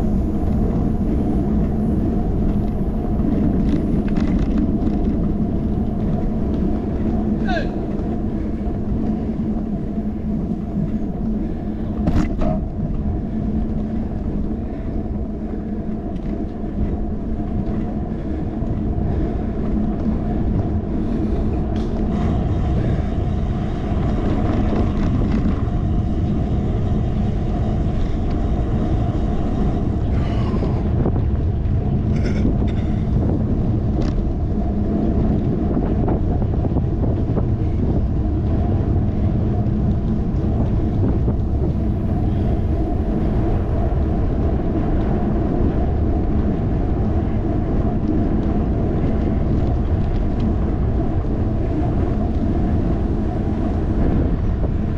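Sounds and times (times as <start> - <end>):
bike road rumble: 0.0 - 54.9
low hum: 0.0 - 54.9
wind noise: 0.0 - 54.9.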